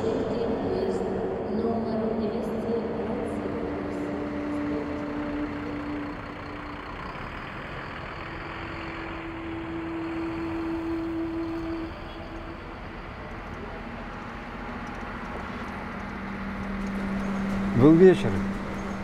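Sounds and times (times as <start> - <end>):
traffic engines humming: 0.0 - 19.0
vehicle passing close: 0.0 - 19.0.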